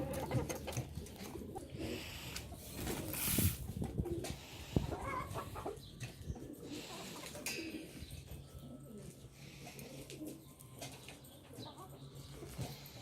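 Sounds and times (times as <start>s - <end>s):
chickens clucking: 0.0s - 13.0s
pigeons cooing: 0.0s - 13.0s.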